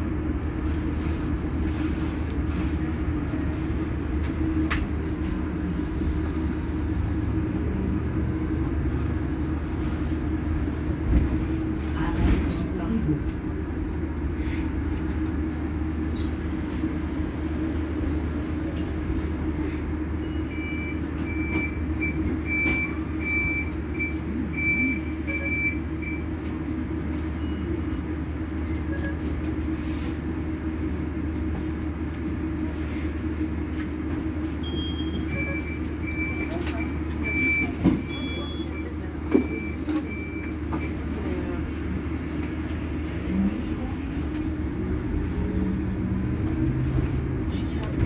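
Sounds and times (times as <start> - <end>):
electric bus humming: 0.0 - 48.0.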